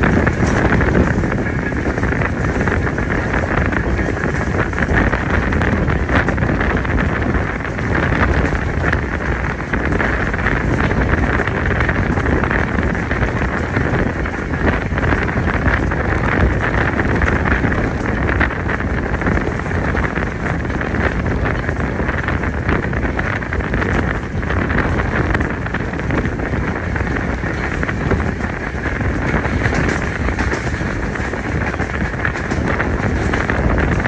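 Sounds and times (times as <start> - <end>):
train rumble: 0.0 - 34.0
wind rushing over microphone: 0.0 - 34.0.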